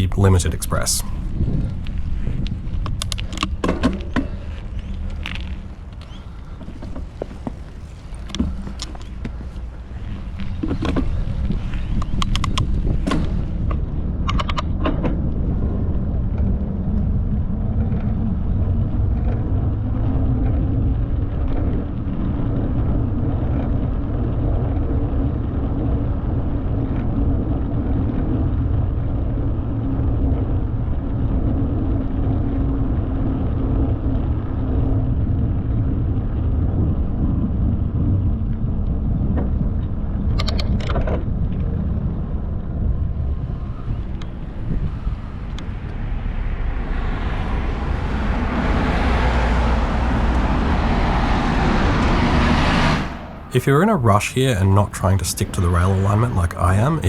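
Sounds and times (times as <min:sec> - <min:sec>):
bicycle rumbling on path: 0:01.3 - 0:52.5.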